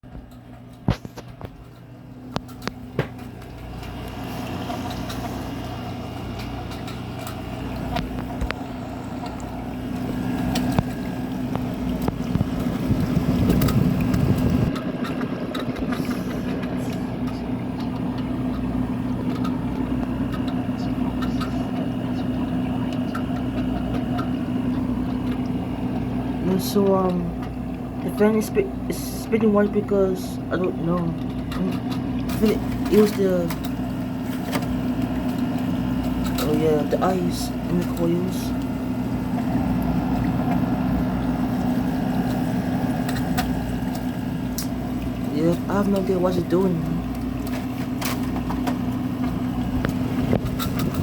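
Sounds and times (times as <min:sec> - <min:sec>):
air conditioner compressor hum: 0:00.0 - 0:51.0
air conditioner fan rushing: 0:00.0 - 0:51.0.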